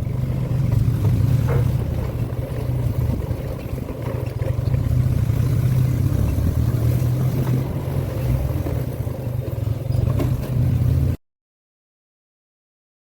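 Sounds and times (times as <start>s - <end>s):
motorcycle engine running: 0.0s - 11.2s
road and wind noise: 0.0s - 11.2s.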